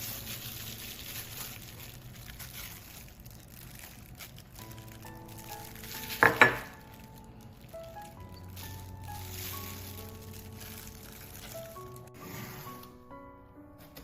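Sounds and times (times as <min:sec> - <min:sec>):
food frying sizzle: 0:00.0 - 0:12.1
soft background music: 0:00.0 - 0:14.0.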